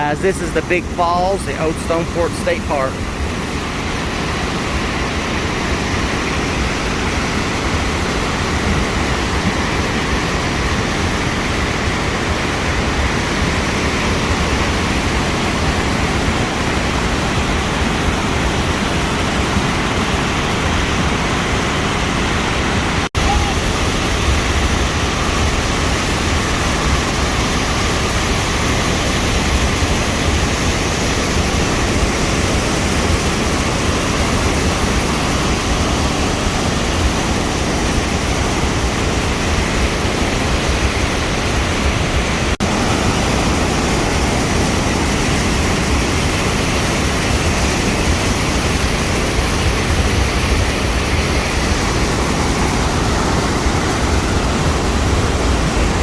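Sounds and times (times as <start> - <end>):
waterfall rushing: 0.0 - 17.2, 17.9 - 56.0.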